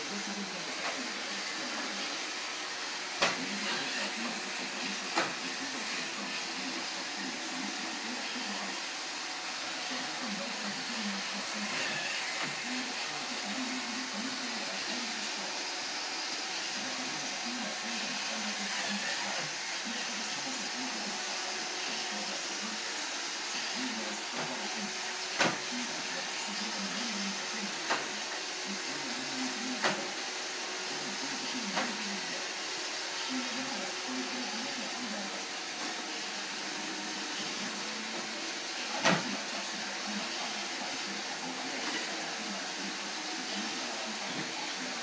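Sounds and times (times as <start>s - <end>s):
robot vacuum whirring: 0.0s - 45.0s.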